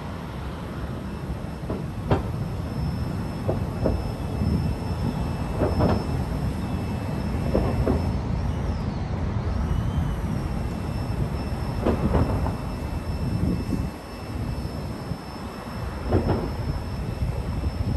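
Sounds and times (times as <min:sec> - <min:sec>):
jet airliner passing overhead: 0:00.0 - 0:17.9.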